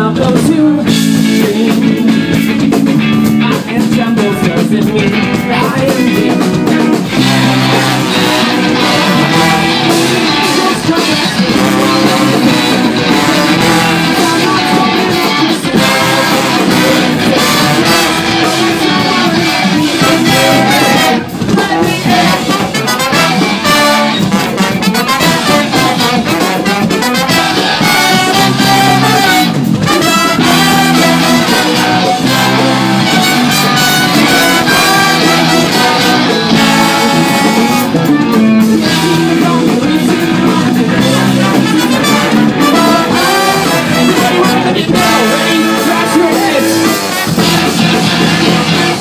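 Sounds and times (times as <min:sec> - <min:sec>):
bass guitar: 0:00.0 - 0:49.0
drums: 0:00.0 - 0:49.0
electric guitar: 0:00.0 - 0:49.0
man singing: 0:00.0 - 0:49.0
trumpet: 0:05.5 - 0:49.0.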